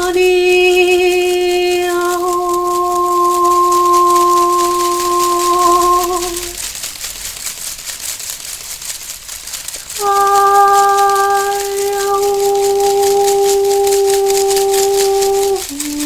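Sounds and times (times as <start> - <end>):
long held musical tones: 0.0 - 6.7, 9.8 - 16.0.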